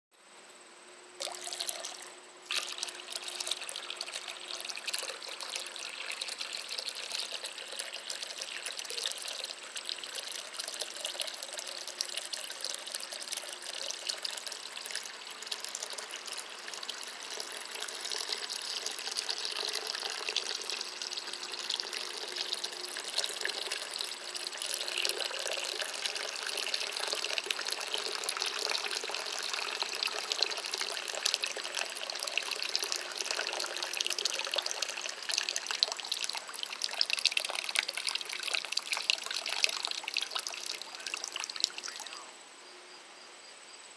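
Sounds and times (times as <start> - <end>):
water pouring and splashing: 1.2 - 42.2.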